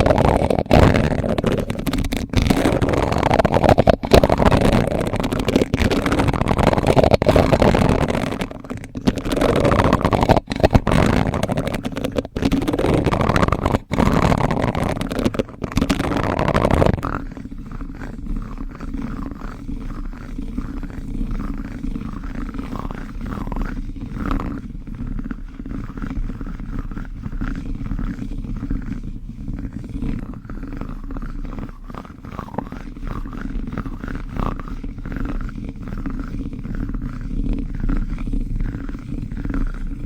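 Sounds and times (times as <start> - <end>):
plastic spoon scraping: 0.0 - 40.0.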